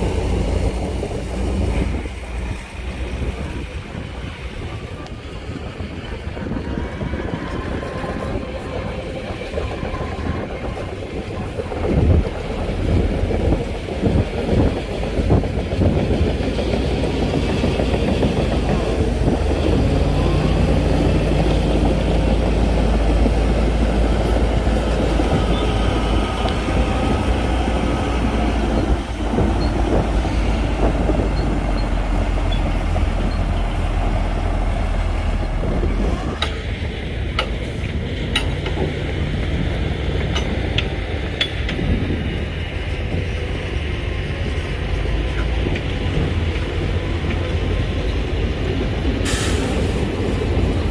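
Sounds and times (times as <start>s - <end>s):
heavy diesel machinery engine rumble: 0.0s - 50.9s.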